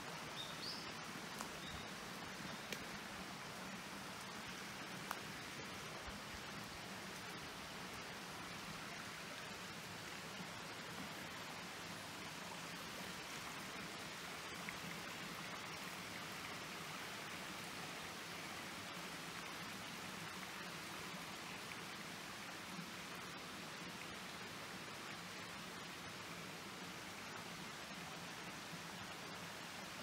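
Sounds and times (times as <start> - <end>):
stream water rushing: 0.0 - 30.0.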